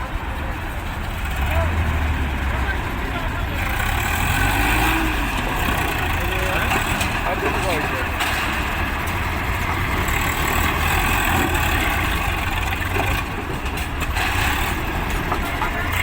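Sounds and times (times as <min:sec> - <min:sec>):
tractor diesel engine rumbling: 0:00.0 - 0:16.0.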